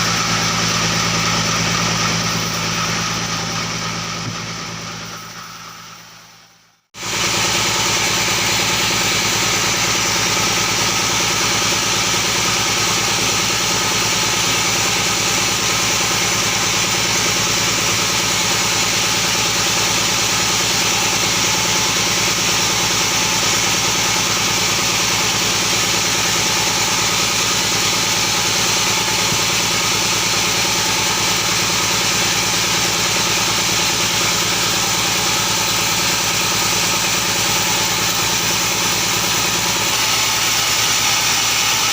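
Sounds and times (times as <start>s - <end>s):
motor running steadily: 0.0s - 41.9s.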